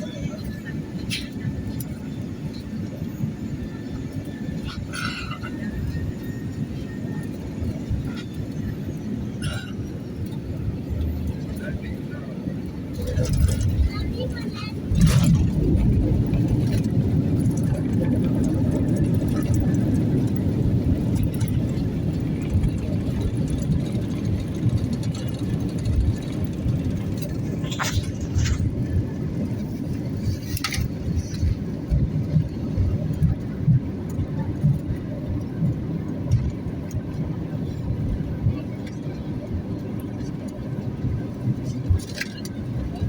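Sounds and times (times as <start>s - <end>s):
airliner wheels and engines rumbling: 0.0s - 43.0s.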